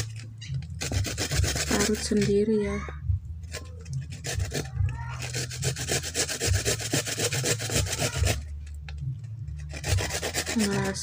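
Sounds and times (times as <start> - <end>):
root grated on metal grater: 0.0 - 2.6, 3.5 - 11.0.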